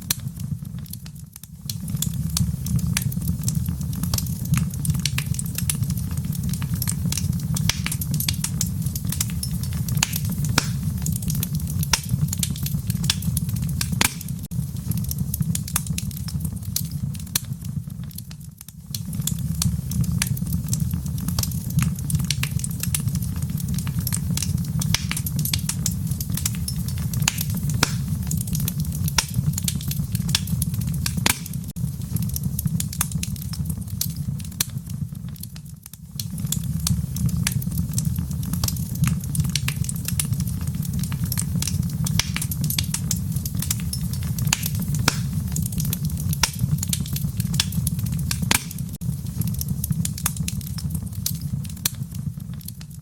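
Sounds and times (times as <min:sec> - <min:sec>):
flames rumbling: 0:00.0 - 0:53.0
wood fire crackling and popping: 0:00.0 - 0:53.0.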